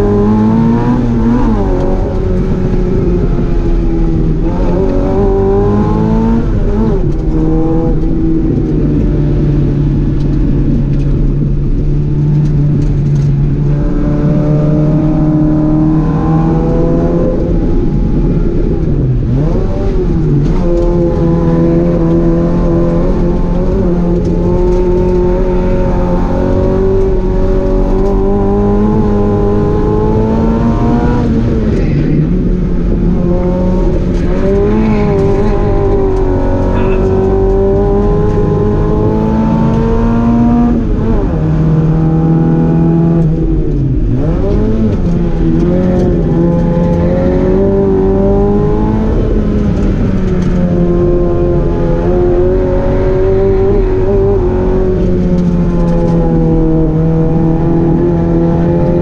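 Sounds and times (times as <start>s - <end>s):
car engine revving inside cabin: 0.0s - 59.0s.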